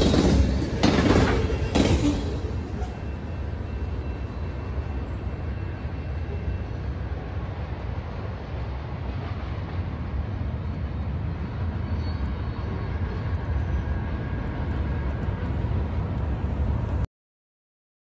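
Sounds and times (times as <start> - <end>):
freight train rumble: 0.0 - 17.1.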